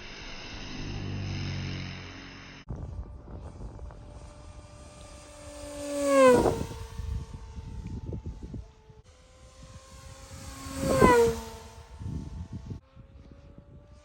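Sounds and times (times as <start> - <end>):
model plane propeller whine: 0.0 - 14.0
wind rumble on microphone: 2.7 - 14.0.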